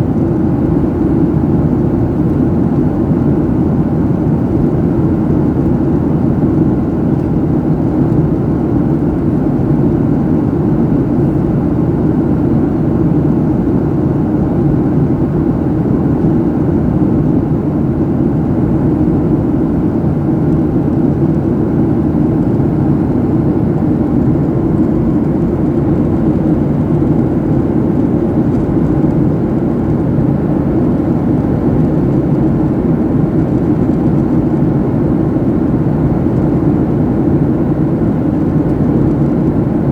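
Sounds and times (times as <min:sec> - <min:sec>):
jet cabin engine and airflow noise: 0:00.0 - 0:39.9.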